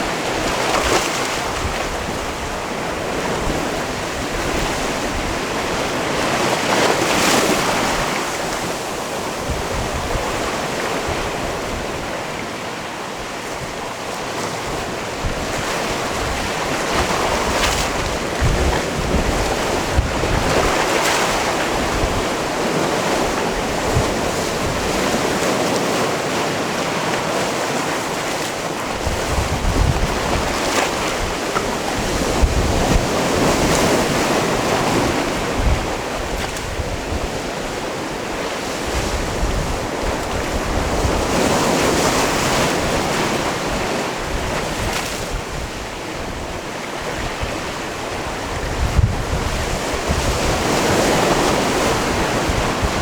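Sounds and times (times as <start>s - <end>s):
sea waves on rocky shore: 0.0s - 53.0s
wind rumbling on microphone: 0.0s - 53.0s.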